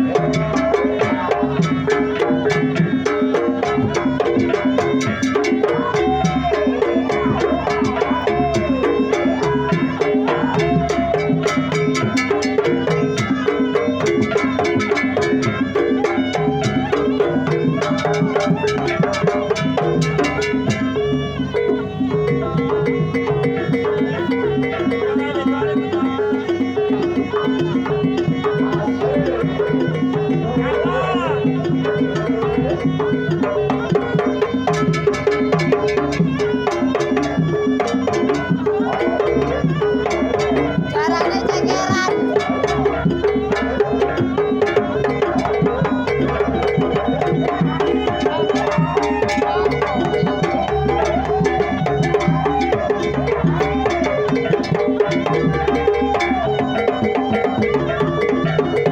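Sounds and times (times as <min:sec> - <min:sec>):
drums and pitched percussion: 0:00.0 - 0:58.9.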